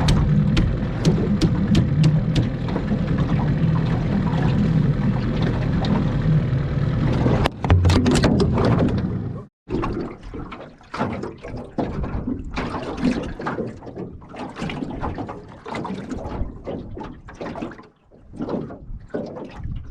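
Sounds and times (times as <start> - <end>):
water splashing and sloshing: 0.0 - 19.9.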